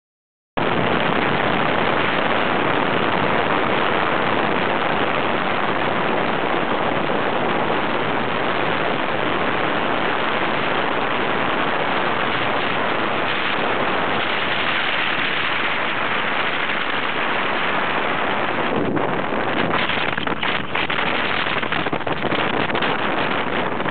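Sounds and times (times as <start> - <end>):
water rushing along hull: 0.6 - 23.9
wind on microphone: 0.6 - 23.9.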